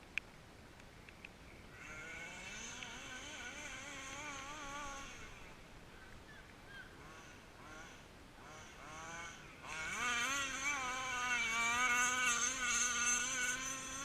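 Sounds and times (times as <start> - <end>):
distant model car engine buzzing: 1.5 - 14.0.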